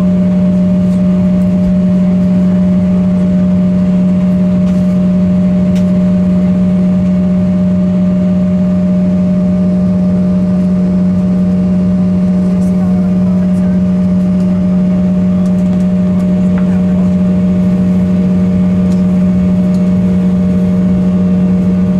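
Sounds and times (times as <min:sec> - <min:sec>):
aircraft cabin engine drone: 0:00.0 - 0:21.9.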